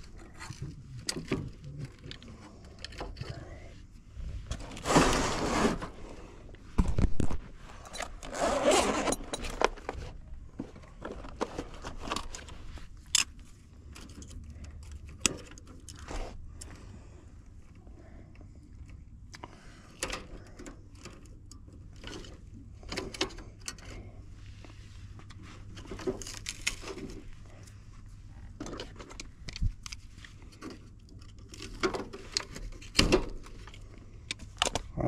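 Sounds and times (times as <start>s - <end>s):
hands handling tools and wiring: 0.0s - 35.0s
steady low hum: 0.0s - 35.0s.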